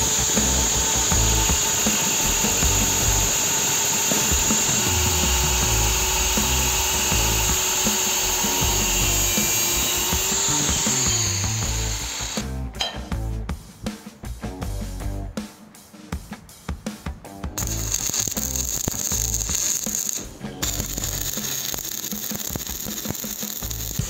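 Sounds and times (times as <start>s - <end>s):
angle grinder grinding metal: 0.0s - 12.9s, 17.6s - 24.0s.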